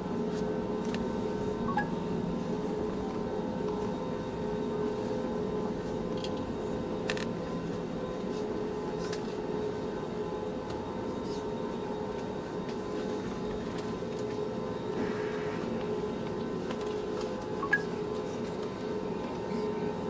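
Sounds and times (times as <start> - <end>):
jet engine roar in cabin: 0.0 - 20.0.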